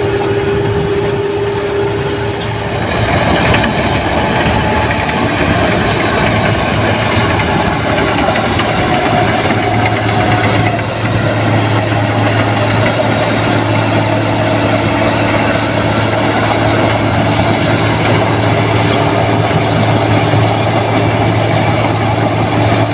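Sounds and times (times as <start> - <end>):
combine harvester engine hum: 0.0 - 22.9
machinery whine: 0.0 - 22.9.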